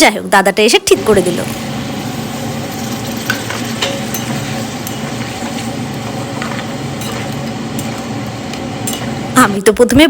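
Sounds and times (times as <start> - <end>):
chicken and potatoes sizzling in oil: 0.9 - 9.8.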